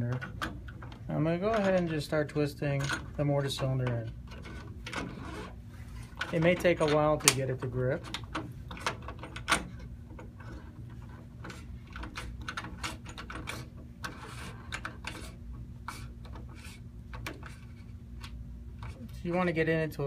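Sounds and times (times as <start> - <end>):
small metal clicks and scrapes: 0.0 - 19.5.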